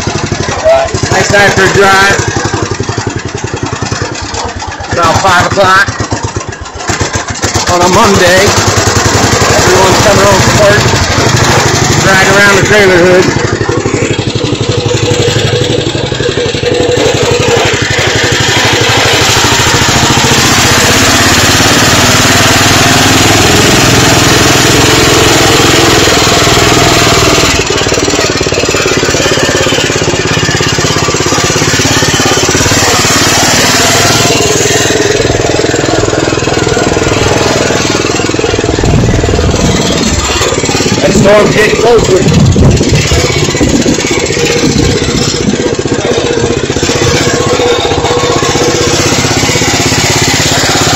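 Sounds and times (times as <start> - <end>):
lawn tractor engine running: 0.0 - 50.9.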